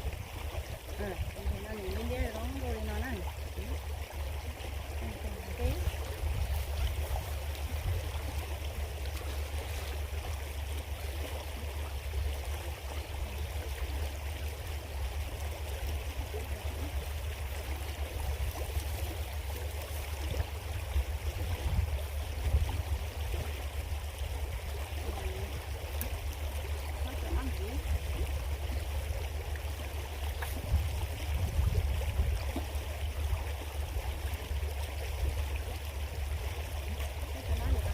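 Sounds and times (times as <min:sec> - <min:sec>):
creek water flowing: 0:00.0 - 0:37.9.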